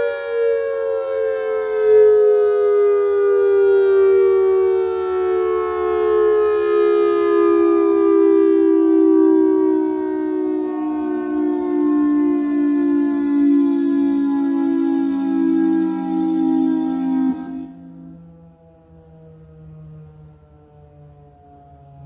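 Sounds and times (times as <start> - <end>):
siren winding down: 0.0 - 22.0.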